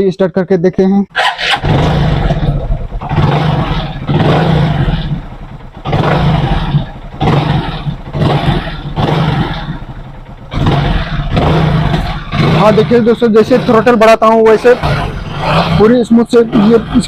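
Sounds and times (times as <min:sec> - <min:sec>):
motorcycle engine starting and revving: 0:01.1 - 0:17.0.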